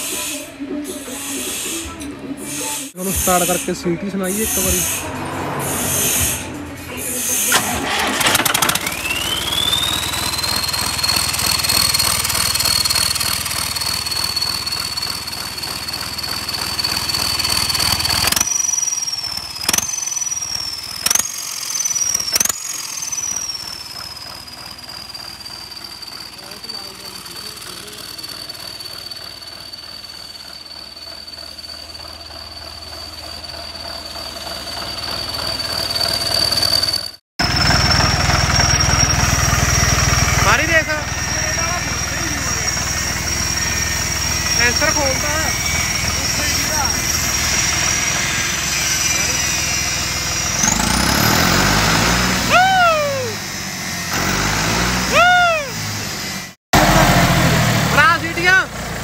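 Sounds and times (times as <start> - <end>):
high-pitched turbo whistle: 0.0 - 56.6
tractor diesel engine rumble: 0.0 - 59.0.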